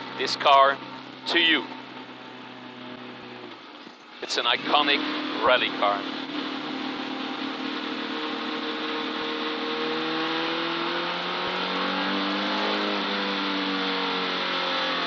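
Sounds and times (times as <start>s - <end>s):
car engine running: 0.0s - 15.0s
road noise: 0.0s - 15.0s.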